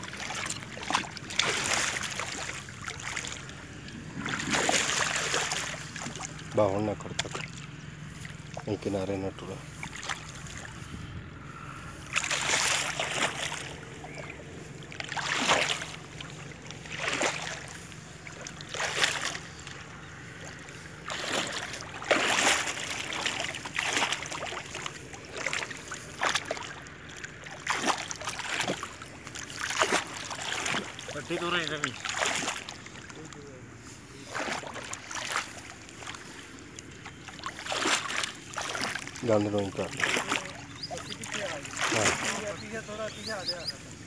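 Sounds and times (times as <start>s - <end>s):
hands splashing muddy water: 0.0s - 8.8s, 9.6s - 10.9s, 11.6s - 33.5s, 34.1s - 44.0s.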